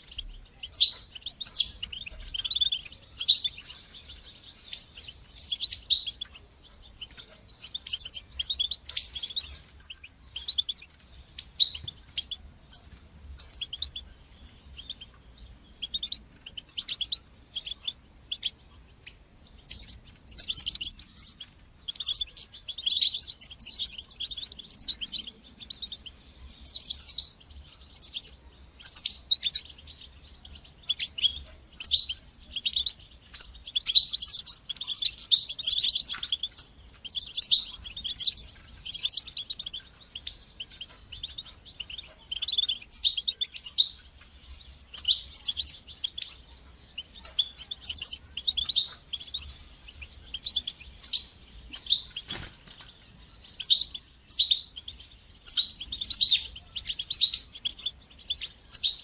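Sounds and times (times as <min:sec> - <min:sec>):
goldfinch twittering and chirping: 0:00.0 - 0:59.0.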